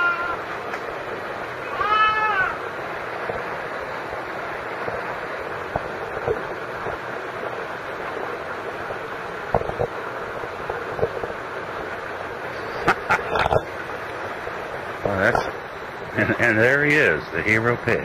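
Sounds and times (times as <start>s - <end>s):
rushing water: 0.0s - 18.0s.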